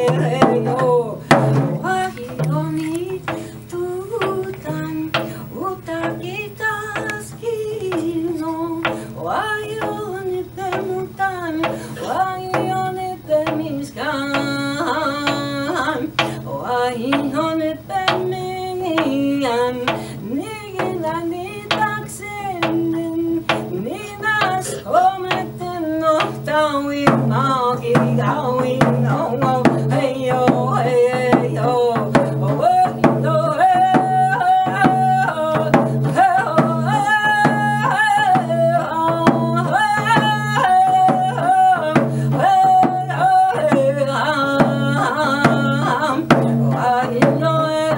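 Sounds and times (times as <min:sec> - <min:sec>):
hand frame drum beat: 0:00.0 - 0:47.9
woman singing: 0:00.0 - 0:47.9.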